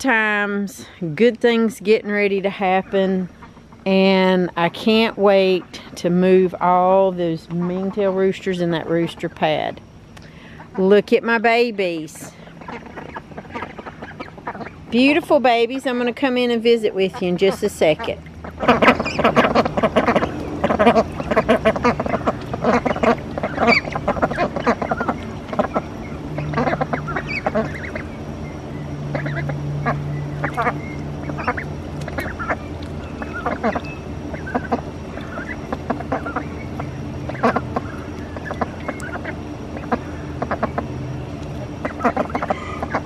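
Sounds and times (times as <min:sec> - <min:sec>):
ducks quacking: 0:06.6 - 0:09.7, 0:10.5 - 0:43.0.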